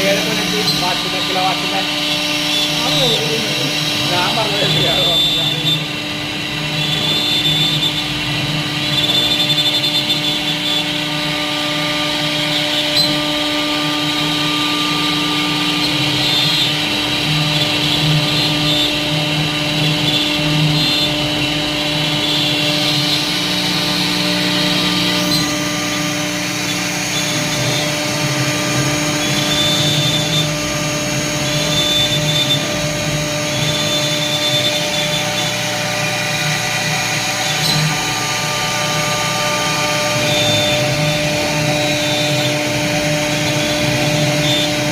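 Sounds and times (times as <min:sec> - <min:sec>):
cnc router spindle whine: 0:00.0 - 0:44.9.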